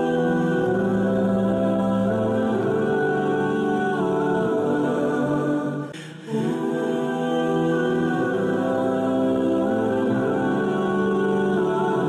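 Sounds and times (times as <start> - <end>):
slow music of long held notes: 0.0 - 12.0.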